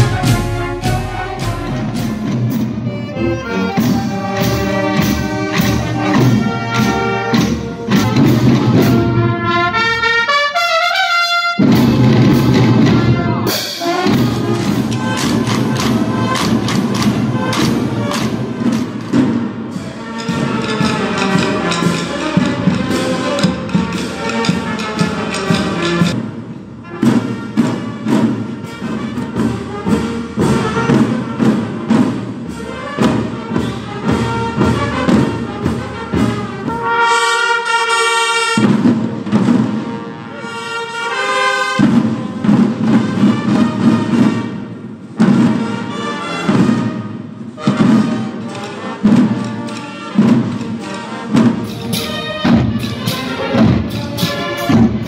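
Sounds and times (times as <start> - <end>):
marching side drums: 0.0 - 55.0
wind instrument melody: 0.0 - 55.0.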